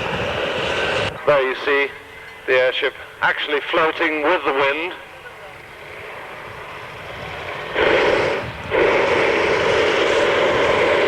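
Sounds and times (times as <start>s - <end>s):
propane burner blast: 0.0s - 4.9s, 5.8s - 11.0s.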